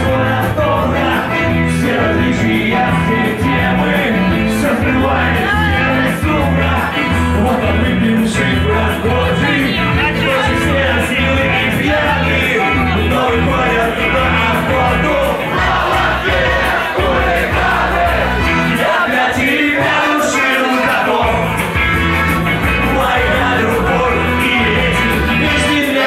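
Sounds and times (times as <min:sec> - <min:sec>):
person singing: 0:00.0 - 0:21.6, 0:22.6 - 0:26.0
rock band playing live: 0:00.0 - 0:26.0.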